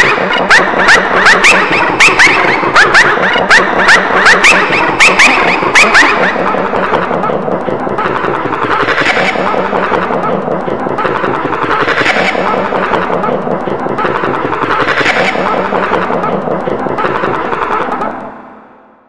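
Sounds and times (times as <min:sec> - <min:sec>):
dense overlapping cartoon laughter: 0:00.0 - 0:18.4.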